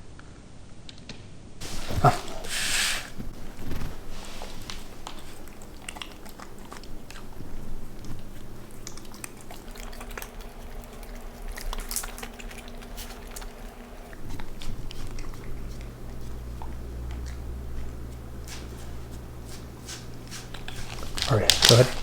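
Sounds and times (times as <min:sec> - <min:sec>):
dog chewing and crunching: 0:01.6 - 0:22.0.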